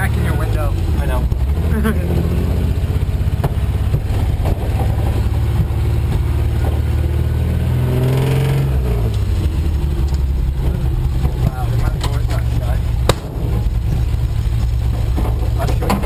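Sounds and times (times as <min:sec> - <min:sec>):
engine revving under load: 0:00.0 - 0:16.0.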